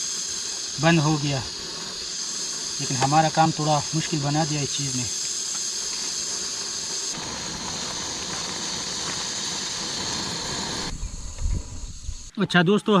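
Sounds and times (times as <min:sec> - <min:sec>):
food sizzling in a pan: 0:00.0 - 0:12.3.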